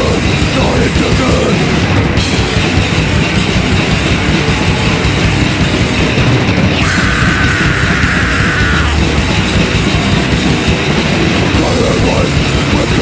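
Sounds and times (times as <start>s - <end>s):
live metal band playing: 0.0s - 13.0s.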